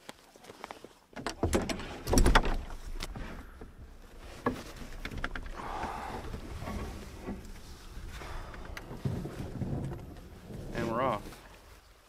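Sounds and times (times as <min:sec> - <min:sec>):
canoe and gear knocking: 0:01.2 - 0:11.2.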